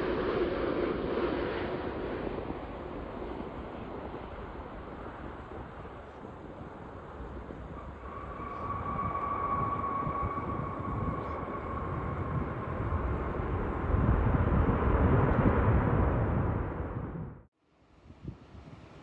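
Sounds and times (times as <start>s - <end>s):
jet engines passing: 0.0s - 17.5s.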